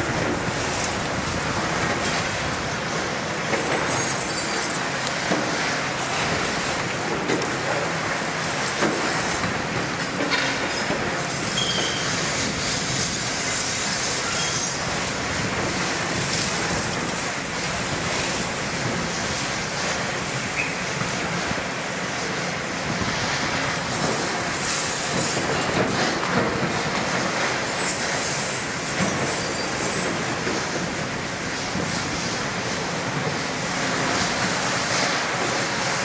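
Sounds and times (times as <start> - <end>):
excavator engine and hydraulics: 0.0 - 36.0.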